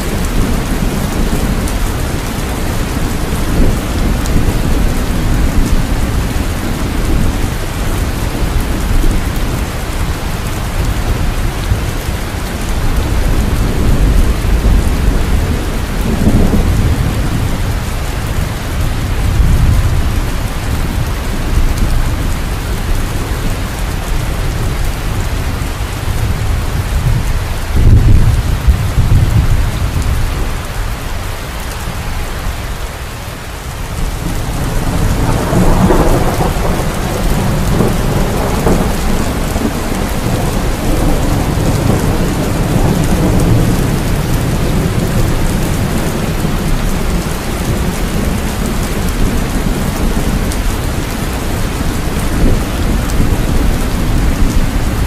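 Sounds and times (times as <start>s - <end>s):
thunder rumbling: 0.0s - 32.5s, 33.2s - 55.0s
heavy rain: 0.0s - 55.0s.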